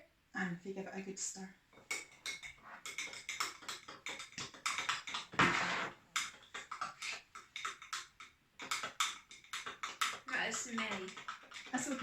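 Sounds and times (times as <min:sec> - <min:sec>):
spoon scraping cup: 0:01.8 - 0:12.0.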